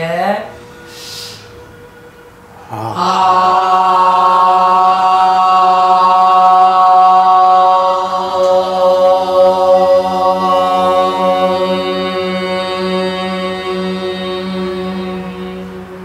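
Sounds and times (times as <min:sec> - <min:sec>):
women singing a long vowel: 0:02.6 - 0:16.0.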